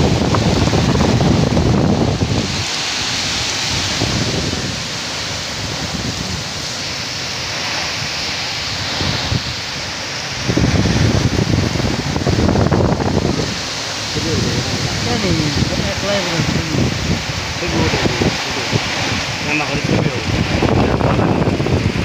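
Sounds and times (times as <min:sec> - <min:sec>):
storm wind and rain: 0:00.0 - 0:22.0
wind buffeting microphone: 0:00.0 - 0:22.0.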